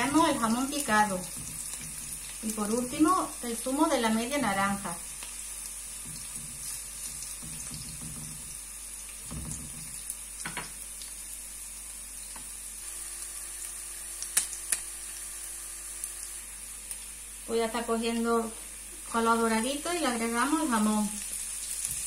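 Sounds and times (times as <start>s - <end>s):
garlic sizzling in hot oil: 0.0s - 22.0s.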